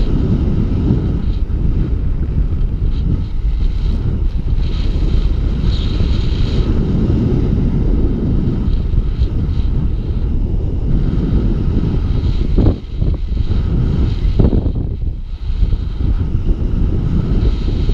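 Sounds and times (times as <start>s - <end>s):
wind rushing over microphone: 0.0s - 17.9s.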